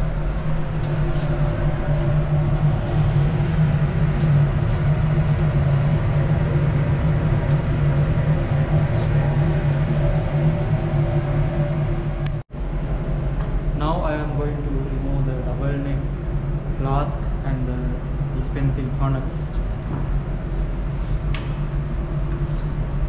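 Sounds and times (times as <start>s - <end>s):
ventilation fan drone: 0.0s - 23.0s.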